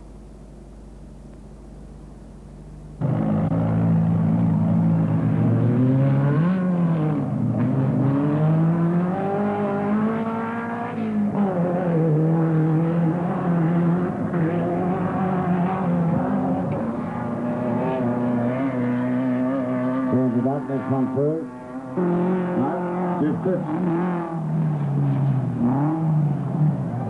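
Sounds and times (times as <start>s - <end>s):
race car engine revving: 3.0s - 27.0s.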